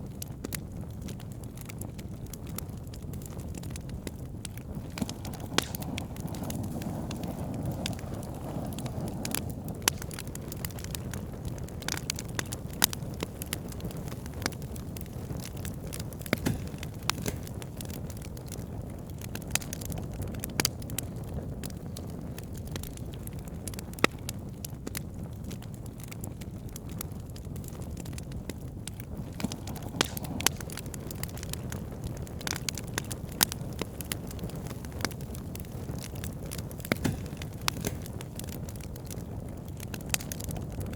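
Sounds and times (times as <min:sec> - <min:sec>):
crackles and pops of burning wood: 0:00.0 - 0:40.9
low rush of flame: 0:00.8 - 0:40.9.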